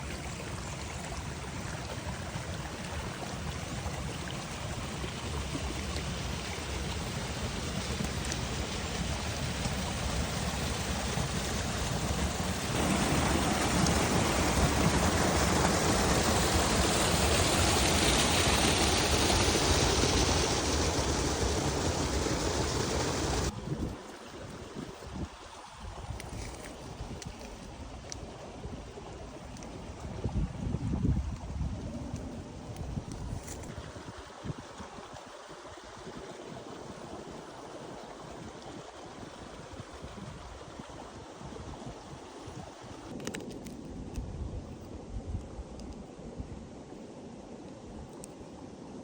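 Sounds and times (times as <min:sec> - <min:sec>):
rushing water: 0:00.0 - 0:43.8.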